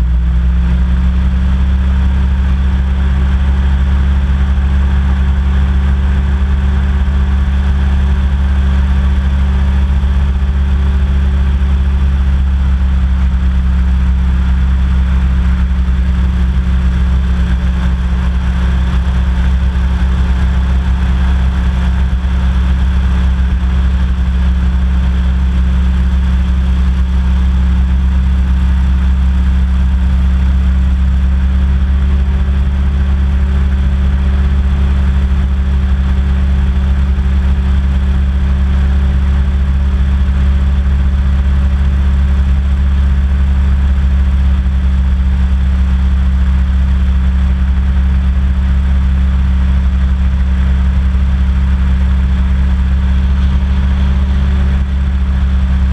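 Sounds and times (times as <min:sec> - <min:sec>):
hovercraft engine droning: 0:00.0 - 0:43.2, 0:49.9 - 0:55.9.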